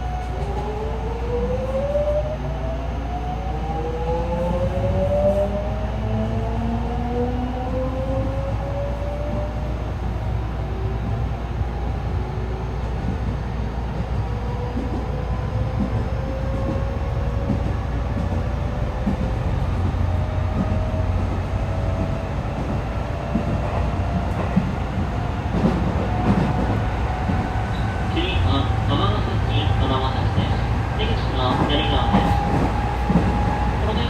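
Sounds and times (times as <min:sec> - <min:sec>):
wheels rumbling on rail: 0:03.8 - 0:34.0.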